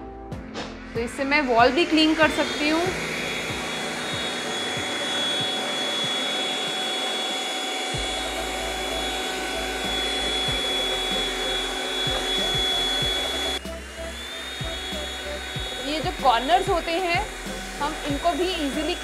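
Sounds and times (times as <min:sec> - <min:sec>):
stick vacuum running: 0:00.6 - 0:19.0.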